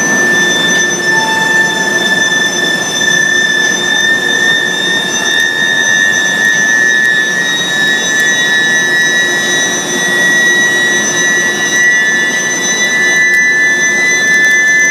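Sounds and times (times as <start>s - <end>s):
machinery noise: 0.0s - 14.6s
high-pitched furnace whine: 0.0s - 14.9s.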